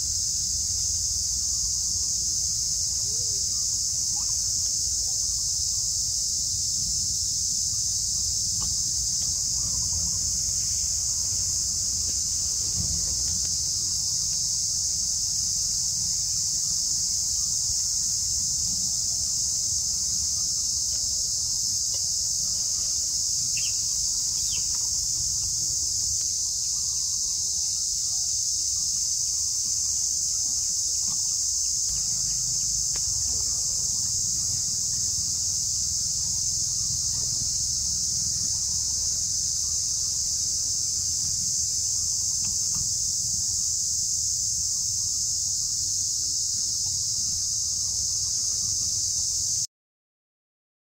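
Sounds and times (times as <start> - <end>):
insects droning chorus: 0.0 - 49.7.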